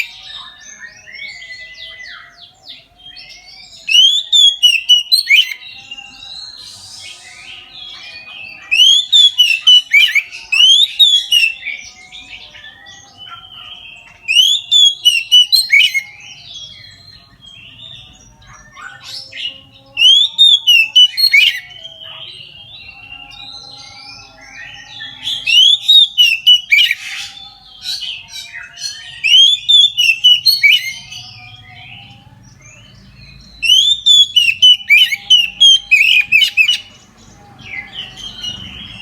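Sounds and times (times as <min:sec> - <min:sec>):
bird whistled song: 0:00.0 - 0:39.0.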